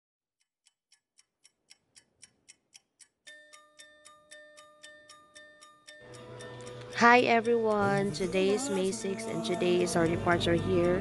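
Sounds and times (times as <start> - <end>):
clock ticking: 0.6 - 11.0.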